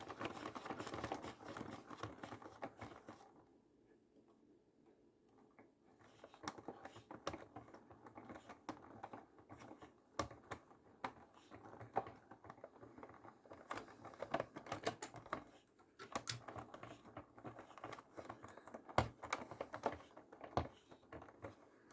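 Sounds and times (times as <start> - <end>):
rapid clicking and tapping: 0.0 - 3.2, 6.0 - 21.9.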